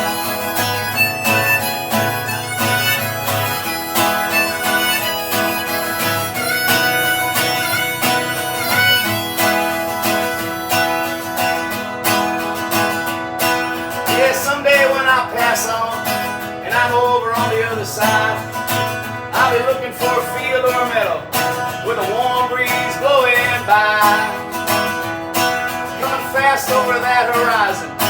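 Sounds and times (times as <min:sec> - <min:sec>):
acoustic guitar strumming: 0:00.0 - 0:28.0
harmonica melody: 0:00.0 - 0:28.0.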